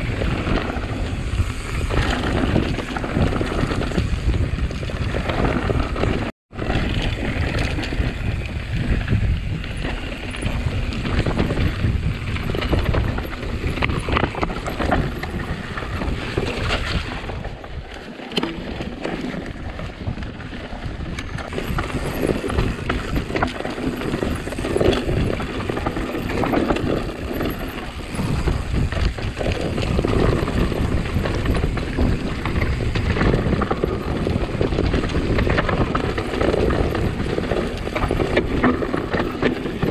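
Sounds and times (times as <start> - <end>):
bike rattling and clicking: 0.0 - 39.9
bike tyres rumbling: 0.0 - 39.9
wind buffeting microphone: 0.0 - 39.9.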